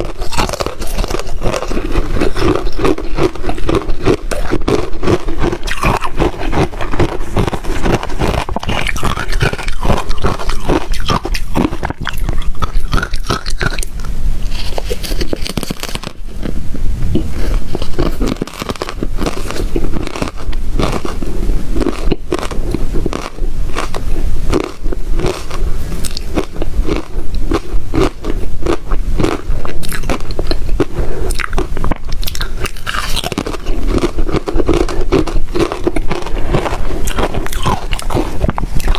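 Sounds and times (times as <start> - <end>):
ice crunching while chewed: 0.0 - 16.5, 17.2 - 38.9.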